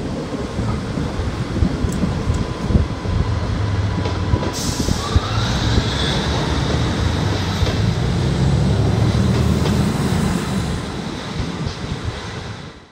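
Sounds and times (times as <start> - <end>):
train rumble: 0.0 - 12.9.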